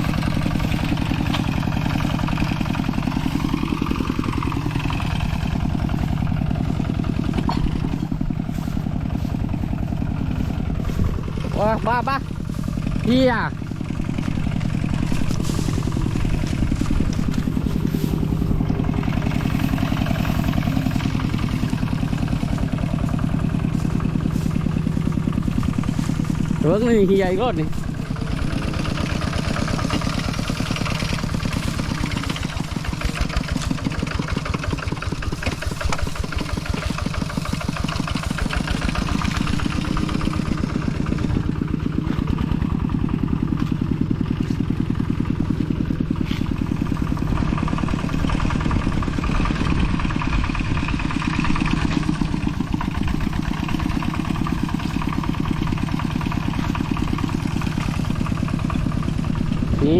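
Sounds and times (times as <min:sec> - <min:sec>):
large vehicle engine pulsing: 0:00.0 - 0:59.9.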